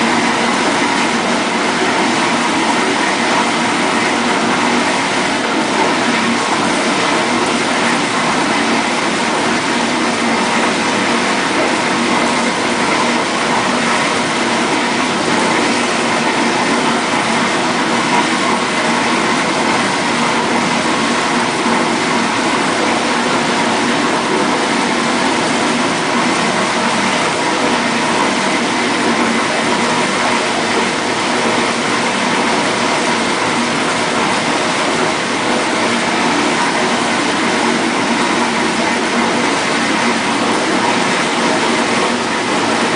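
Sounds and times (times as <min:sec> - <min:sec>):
water spraying in dishwasher: 0:00.0 - 0:42.9.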